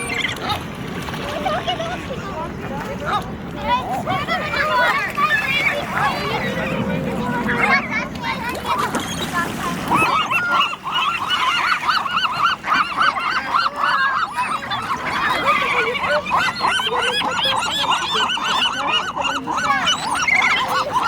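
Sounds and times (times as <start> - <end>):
flock of water birds calling: 0.0 - 21.0.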